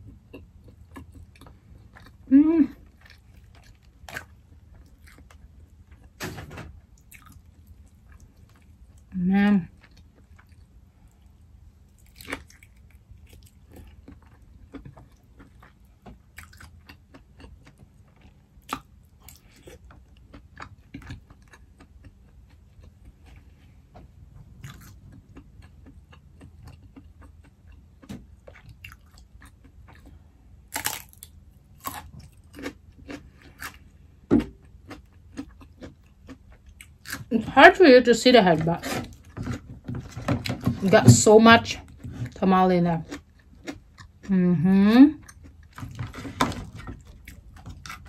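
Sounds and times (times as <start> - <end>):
person chewing with wet clicks: 0.0 - 6.2, 6.8 - 23.5, 24.5 - 37.3, 43.0 - 44.4, 45.2 - 48.0.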